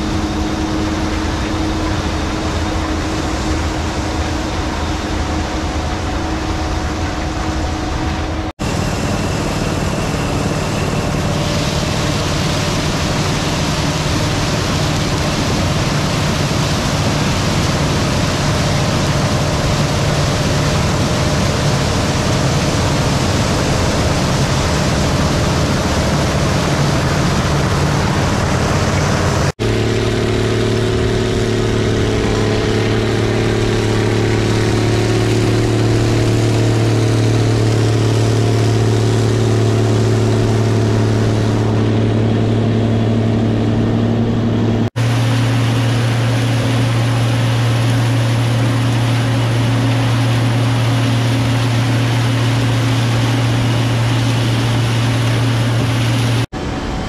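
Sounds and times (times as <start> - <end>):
combine engine drone: 0.0 - 57.0.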